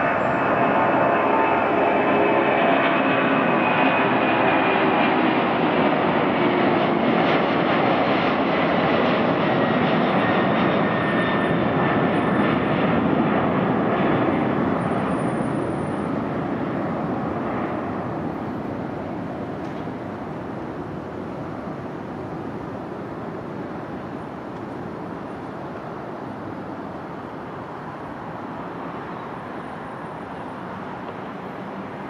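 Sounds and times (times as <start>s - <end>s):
jet engines rumbling at high thrust: 0.0s - 32.0s.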